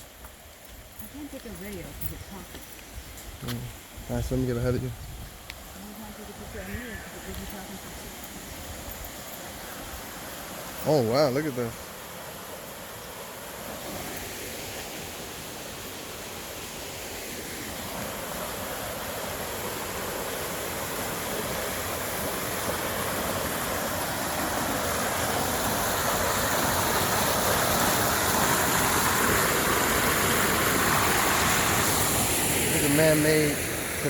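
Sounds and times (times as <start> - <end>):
water rushing along a canal: 0.0 - 34.0.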